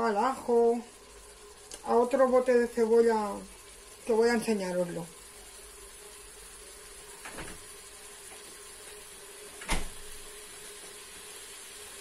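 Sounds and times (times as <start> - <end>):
onion sizzling in oil: 0.0 - 12.0
steady hum: 0.0 - 12.0.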